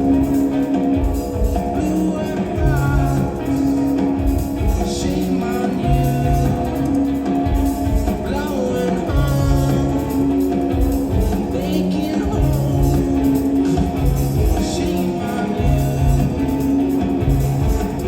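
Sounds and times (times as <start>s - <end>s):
bass guitar: 0.0s - 18.0s
drums: 0.0s - 18.0s
guitar: 0.0s - 18.0s
person singing: 0.0s - 18.0s.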